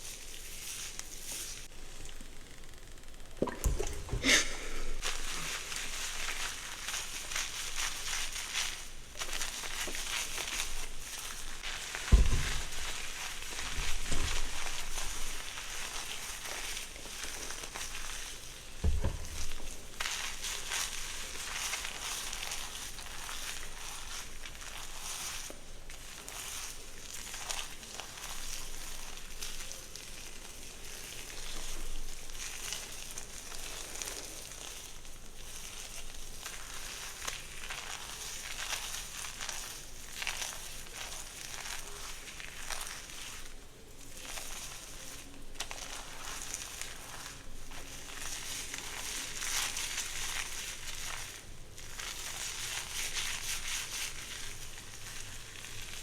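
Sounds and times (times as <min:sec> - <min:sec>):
hair rustling and crackling: 0:00.0 - 0:01.7, 0:03.6 - 0:56.0.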